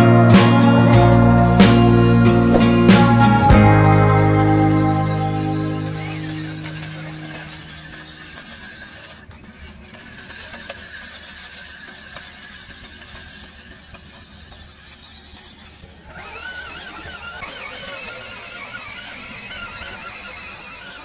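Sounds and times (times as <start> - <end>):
electric motor and gear whine: 0.0 - 9.3, 12.4 - 21.0.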